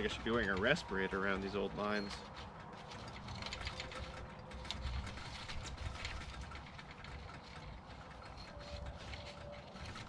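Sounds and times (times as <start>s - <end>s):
rope rustling and clicking: 0.0s - 10.0s.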